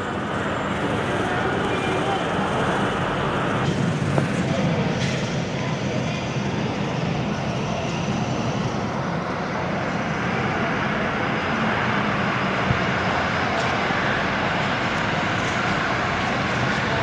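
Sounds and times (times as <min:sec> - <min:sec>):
bus engine driving past: 0:00.0 - 0:17.0.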